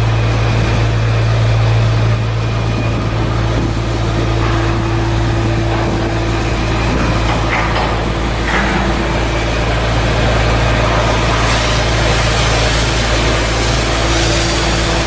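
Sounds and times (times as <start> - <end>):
low hum of running machinery: 0.0 - 15.0.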